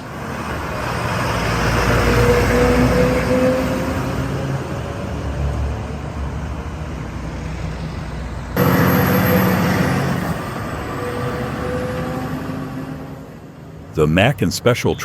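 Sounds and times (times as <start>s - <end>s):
heavy vehicle engines running: 0.0s - 15.0s
nearer engine: 0.0s - 15.0s.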